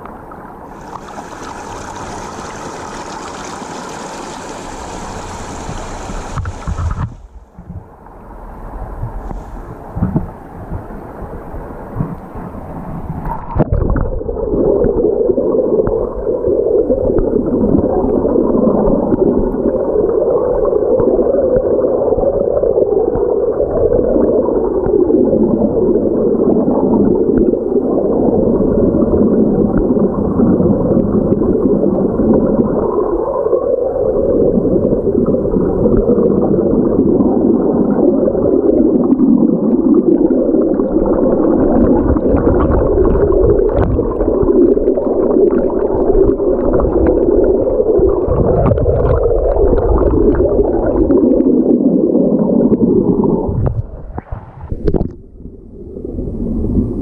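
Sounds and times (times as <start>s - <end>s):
muffled underwater water rush: 0.0s - 57.0s.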